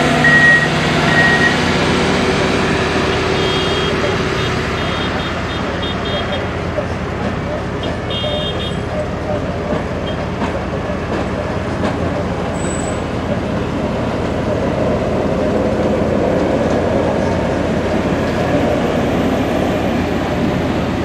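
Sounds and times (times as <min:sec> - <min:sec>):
rail machines rumbling over crossing: 0:00.0 - 0:21.0.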